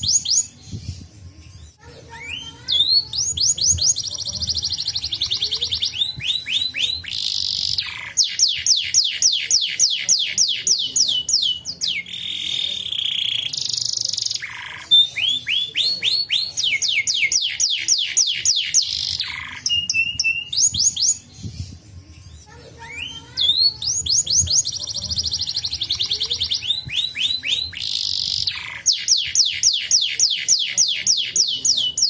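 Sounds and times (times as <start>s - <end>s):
canary singing: 0.0s - 32.0s.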